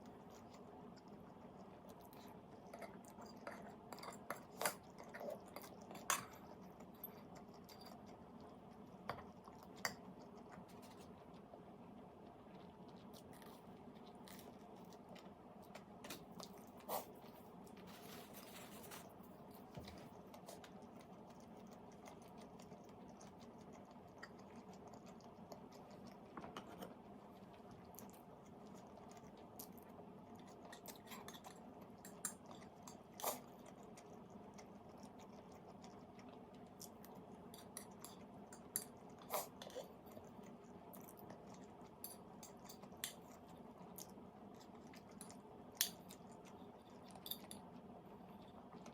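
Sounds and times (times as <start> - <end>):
person chewing food: 0.0 - 17.8, 19.0 - 48.9.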